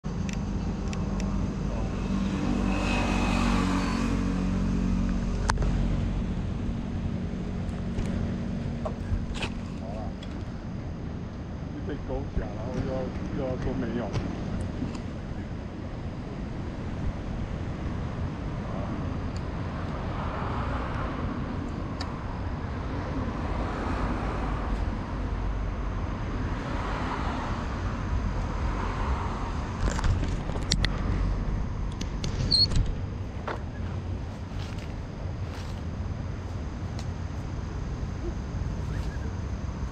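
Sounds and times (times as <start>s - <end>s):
drone motors humming: 0.1s - 39.9s.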